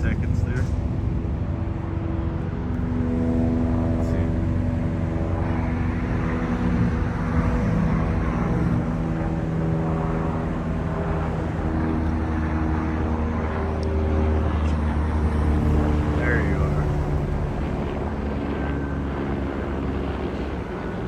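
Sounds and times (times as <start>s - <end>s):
airplane engine droning: 0.0s - 21.0s.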